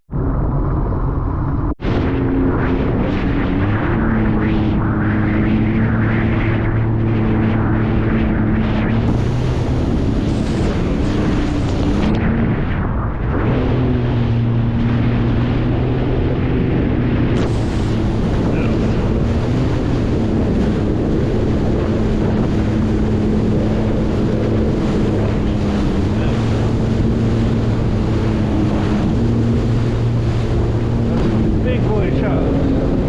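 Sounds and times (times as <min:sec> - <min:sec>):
jet ski engine running: 0:00.1 - 0:33.0
wind buffeting microphone: 0:00.1 - 0:33.0
water rushing: 0:00.4 - 0:33.0.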